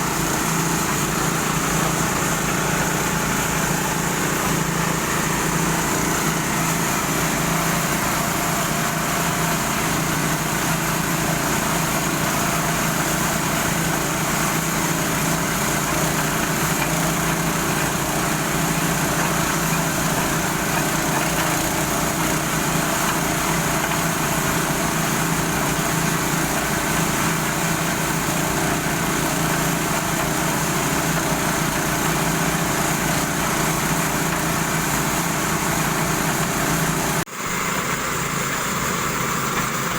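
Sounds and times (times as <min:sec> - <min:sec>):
pump motor humming: 0:00.0 - 0:39.9.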